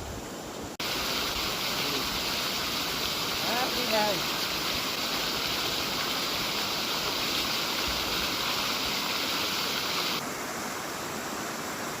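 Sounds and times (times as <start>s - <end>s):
rushing stream water: 0.0s - 12.0s.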